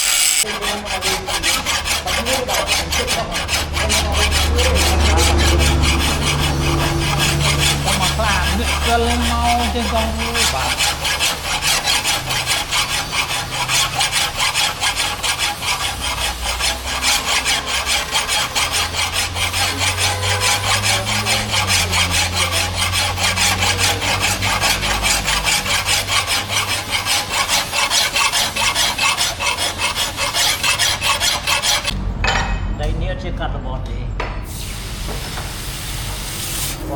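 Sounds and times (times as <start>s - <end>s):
hand file rasping on steel: 0.0s - 32.0s.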